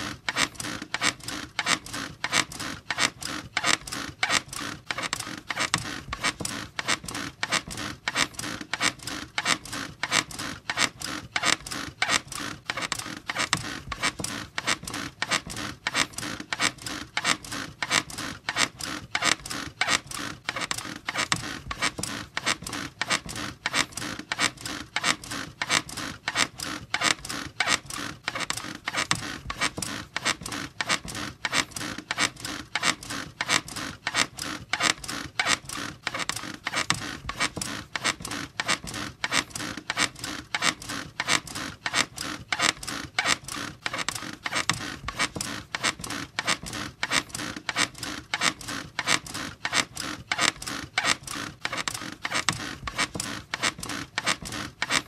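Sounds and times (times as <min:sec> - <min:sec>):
squeaky bed creaking: 0:00.0 - 0:55.0.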